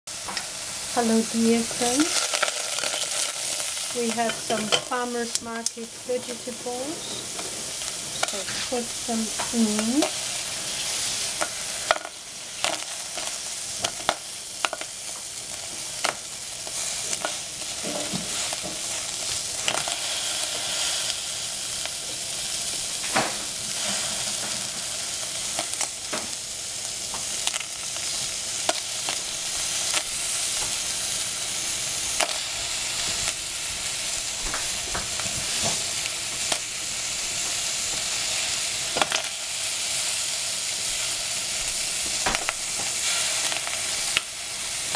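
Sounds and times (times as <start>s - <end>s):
sizzling in a saucepan: 0.1s - 44.9s.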